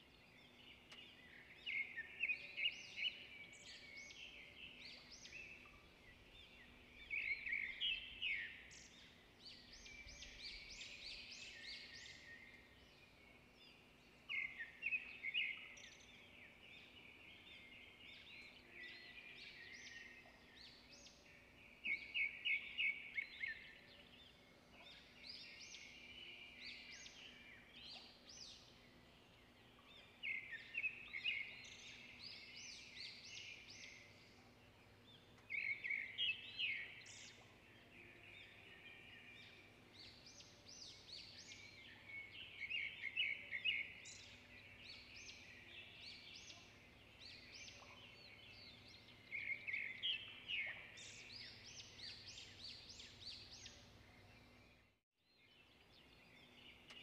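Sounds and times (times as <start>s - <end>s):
songbirds chirping rapidly: 0.0s - 57.0s.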